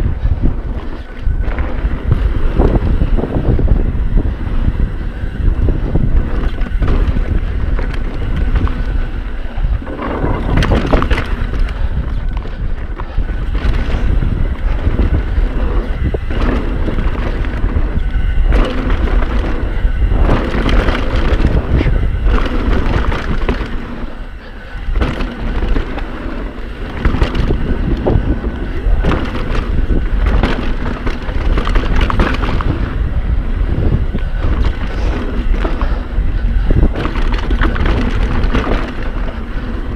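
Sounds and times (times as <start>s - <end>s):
bike clattering on bumpy ground: 0.0s - 39.9s
wind buffeting microphone: 0.0s - 39.9s.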